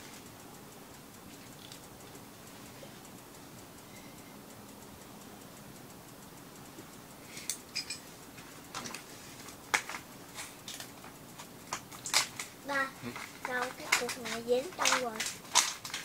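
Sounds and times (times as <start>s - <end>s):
light ticking: 0.0s - 16.0s.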